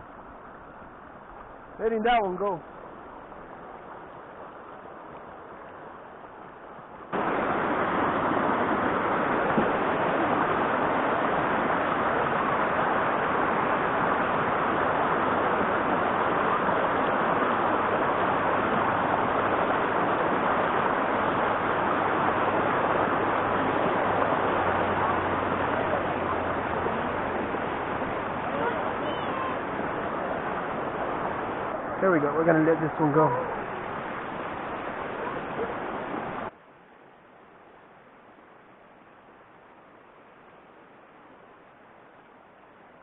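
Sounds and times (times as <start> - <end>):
flowing river water: 0.0 - 43.0.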